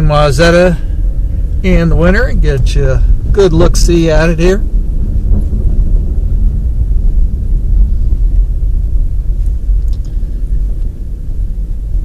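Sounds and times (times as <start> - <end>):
car engine and tyres rumbling: 0.0 - 12.0
faint rattles: 0.5 - 12.0.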